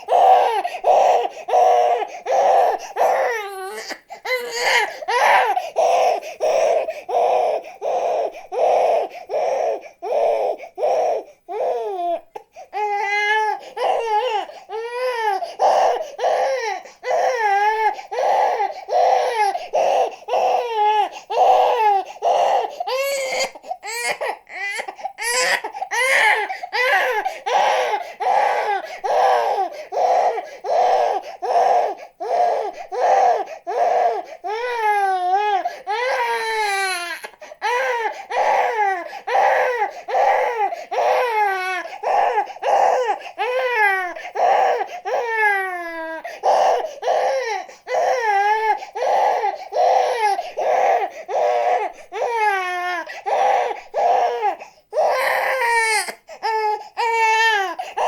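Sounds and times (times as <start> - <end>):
infant crying: 0.0 - 58.0.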